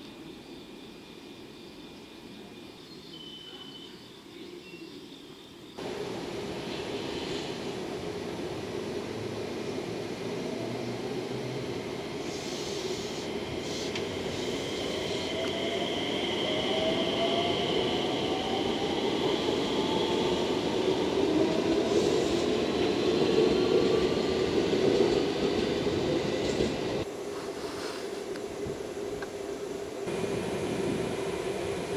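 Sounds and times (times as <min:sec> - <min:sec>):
train wheels rumbling on rails: 0:05.8 - 0:31.9.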